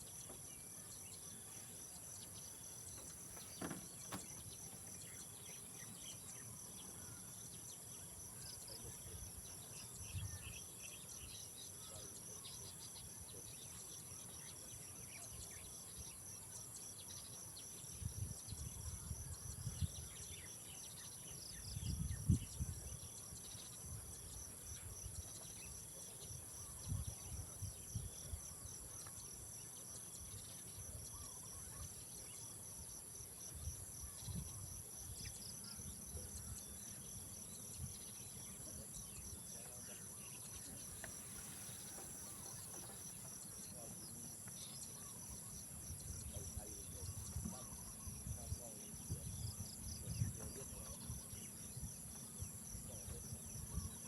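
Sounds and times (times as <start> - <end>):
crickets trilling: 0.0 - 54.0
insects chirring: 0.0 - 54.0.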